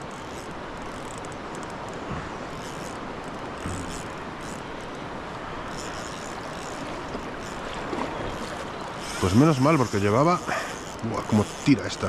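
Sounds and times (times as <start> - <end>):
flowing water: 0.0 - 12.0.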